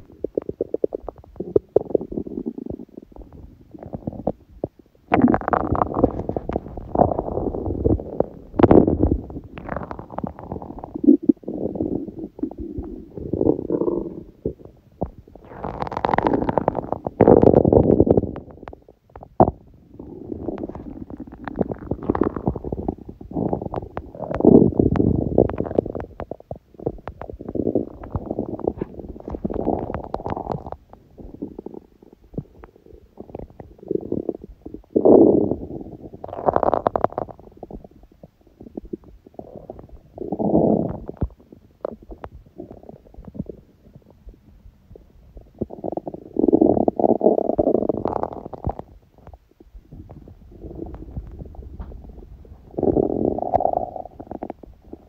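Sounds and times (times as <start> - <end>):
stomach growling and gurgling: 0.0 - 55.0.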